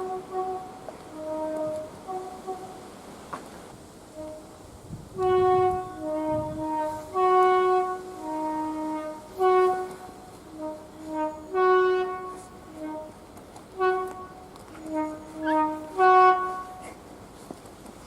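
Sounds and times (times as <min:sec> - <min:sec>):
two-tone train horn: 0:00.0 - 0:03.0, 0:04.1 - 0:17.1.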